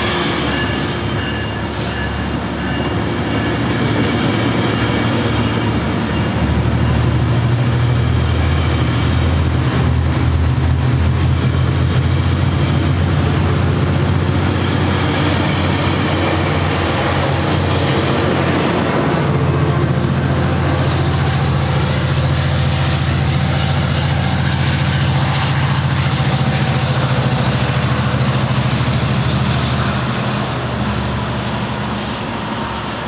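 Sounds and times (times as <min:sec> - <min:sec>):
diesel locomotive drone: 0:00.0 - 0:33.0
passenger cars rolling on rails: 0:00.0 - 0:33.0.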